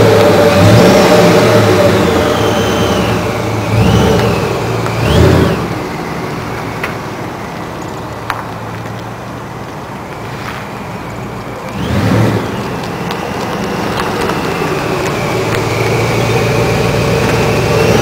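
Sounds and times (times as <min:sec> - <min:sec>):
truck engine revving and idling: 0:00.0 - 0:18.0.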